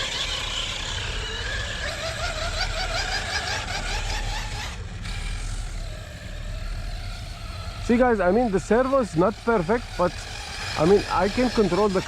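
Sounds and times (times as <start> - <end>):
electric toy truck motor whining: 0.0 - 12.0.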